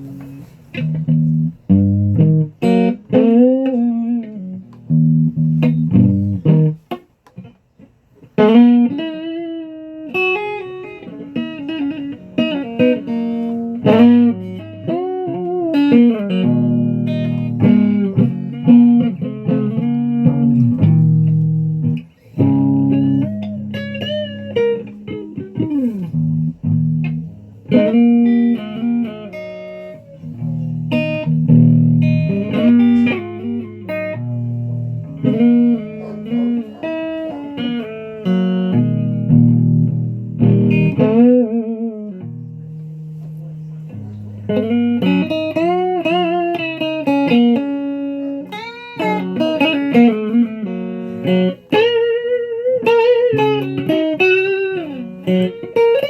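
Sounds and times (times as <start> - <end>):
guitar notes and chords: 0.0 - 56.0.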